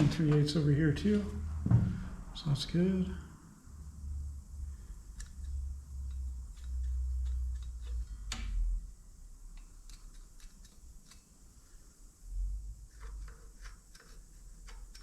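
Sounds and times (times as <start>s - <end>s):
low steady rumble: 0.0s - 13.7s.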